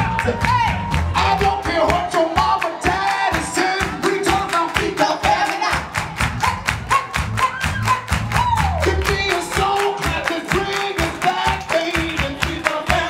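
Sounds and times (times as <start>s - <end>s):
person singing: 0.0s - 6.0s, 7.9s - 13.0s
funk music with drum beat: 0.0s - 13.0s.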